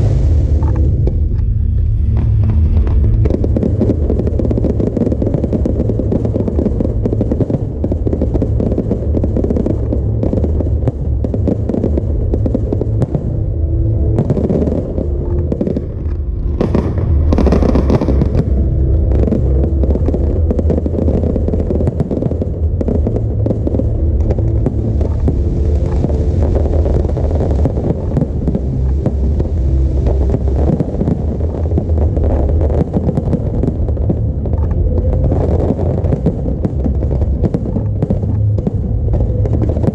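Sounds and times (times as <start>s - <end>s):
fireworks bursts and crackle: 0.0s - 39.9s
heavy low rumble: 0.0s - 39.9s.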